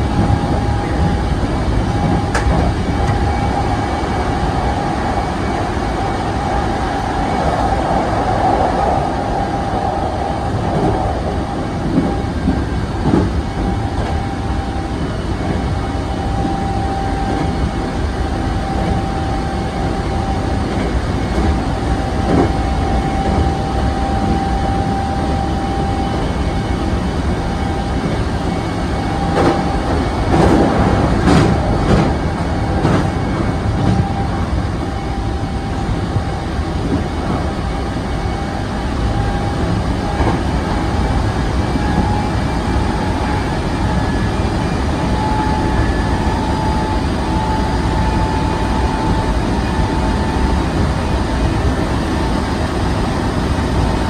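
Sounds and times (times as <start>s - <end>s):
train wheels rumbling on rails: 0.0s - 54.0s
train whine: 0.0s - 54.0s.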